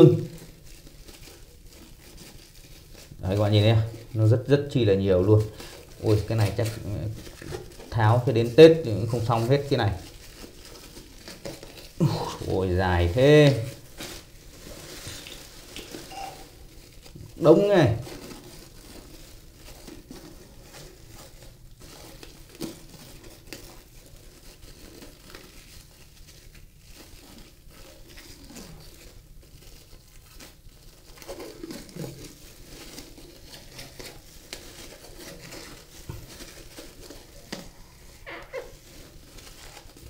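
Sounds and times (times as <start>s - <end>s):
plastic film crinkling: 0.0s - 40.0s.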